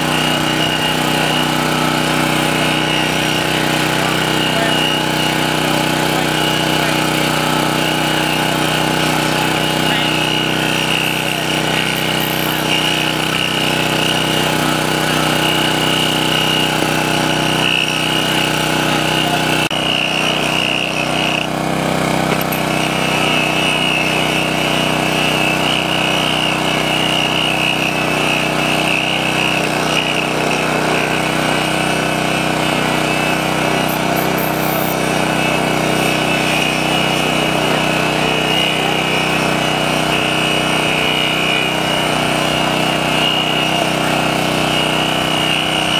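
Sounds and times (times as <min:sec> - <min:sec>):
rail grinder grinding: 0:00.0 - 0:45.9.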